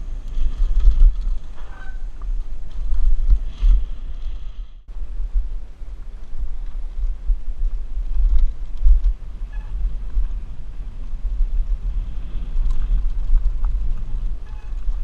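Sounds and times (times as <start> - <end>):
bike clicks and rattles: 0.0 - 4.4, 5.5 - 15.0
wind buffeting camera: 0.0 - 15.0.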